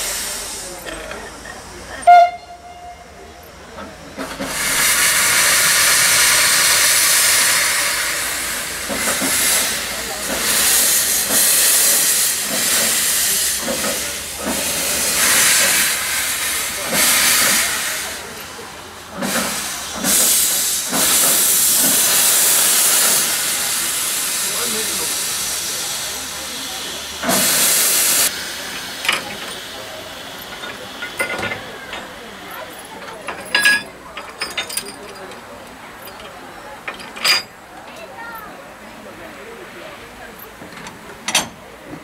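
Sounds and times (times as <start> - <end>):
steam locomotive hissing: 0.0 - 42.0.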